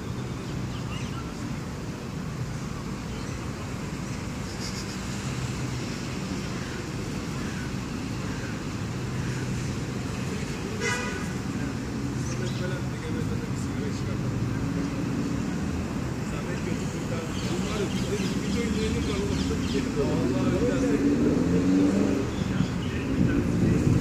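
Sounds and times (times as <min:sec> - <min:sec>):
distant traffic hum: 0:00.0 - 0:24.0.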